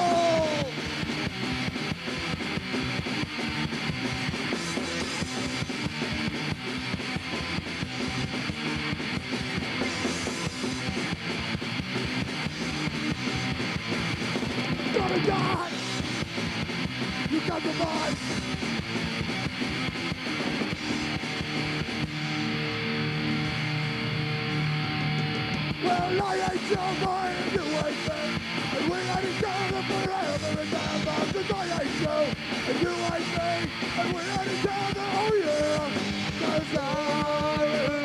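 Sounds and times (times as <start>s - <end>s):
electric guitar: 0.0s - 38.0s
punk rock band playing: 0.0s - 38.0s.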